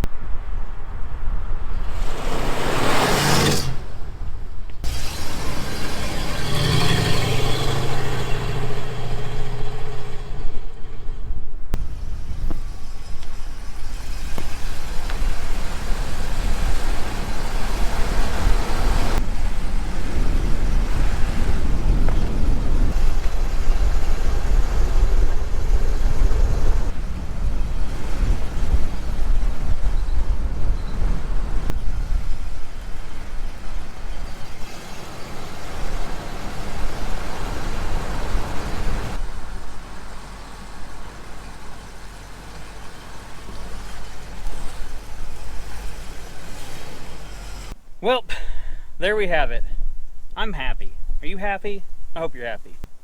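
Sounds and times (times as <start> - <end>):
engine heavy low rumble: 0.0 - 53.0
car engine passing by: 1.6 - 47.8.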